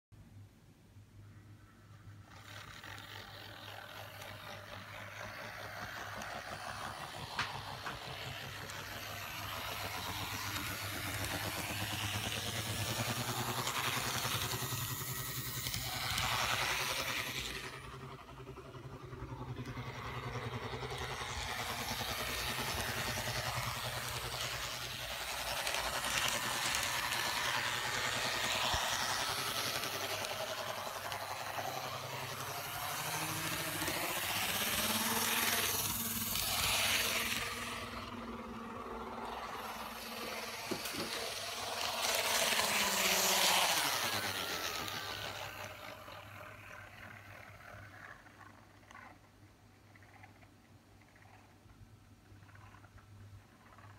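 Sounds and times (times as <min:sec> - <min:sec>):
model train running: 0:01.3 - 0:53.9.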